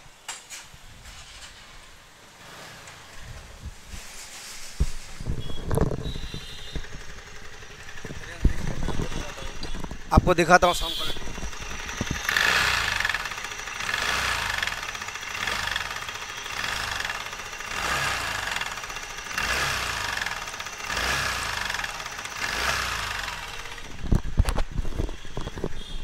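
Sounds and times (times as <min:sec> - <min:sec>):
scooter engine rattling: 0:00.4 - 0:26.0.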